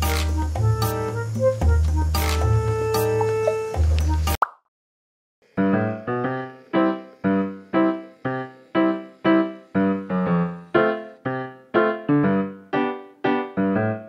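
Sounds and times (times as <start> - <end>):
keyboard chords: 0.0 - 4.4, 5.4 - 14.0.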